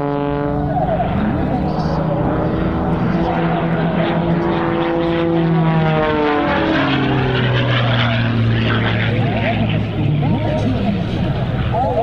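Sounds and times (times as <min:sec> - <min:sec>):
propeller plane droning by: 0:00.0 - 0:12.0.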